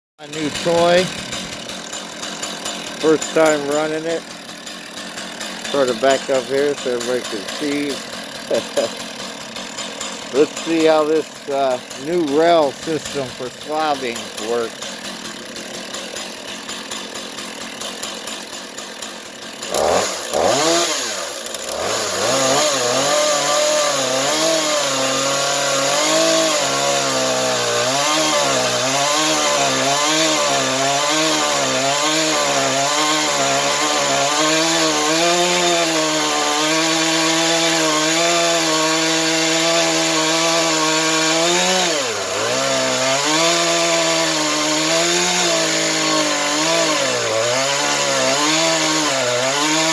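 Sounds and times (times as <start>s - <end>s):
chainsaw cutting log: 0.2s - 49.9s.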